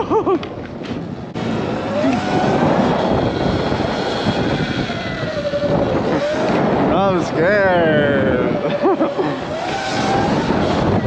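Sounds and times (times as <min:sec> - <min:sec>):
wind and road noise: 0:00.0 - 0:11.0
electric motorbike motor whine: 0:01.0 - 0:11.0.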